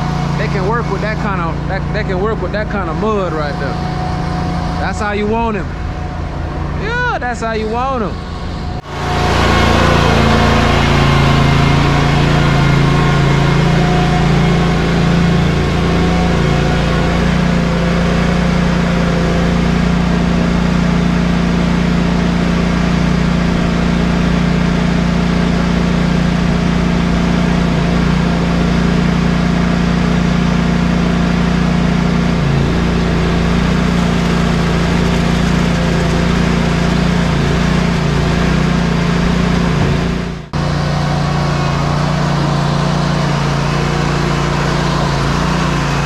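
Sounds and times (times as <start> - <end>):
truck diesel engine humming: 0.0 - 46.0.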